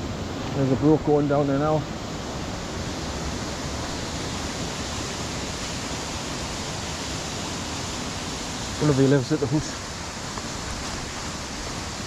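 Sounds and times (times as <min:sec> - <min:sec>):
brook water rushing: 0:00.0 - 0:12.0.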